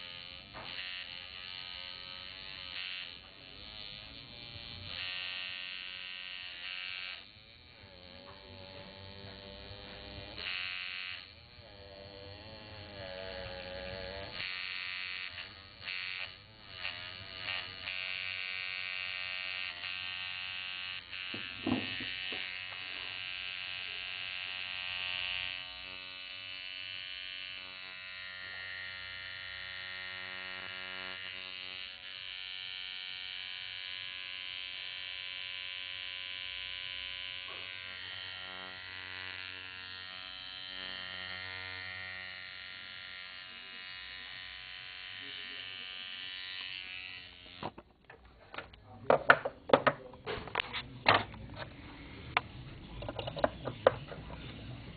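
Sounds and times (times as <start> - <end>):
tattoo machine buzzing: 0.0 - 50.6, 52.1 - 54.9.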